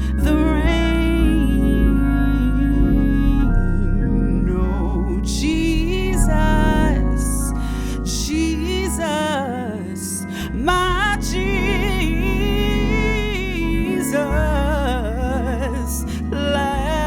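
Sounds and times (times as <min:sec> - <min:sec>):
organ sustained chords: 0:00.0 - 0:17.0
person singing wordless melody: 0:00.0 - 0:17.0.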